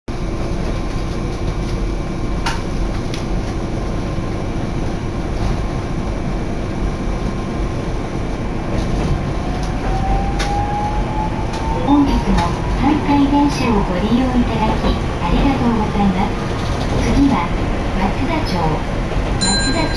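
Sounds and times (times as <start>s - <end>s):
streetcar wheels rumbling: 0.1s - 19.9s
tram motor whine: 0.1s - 19.9s.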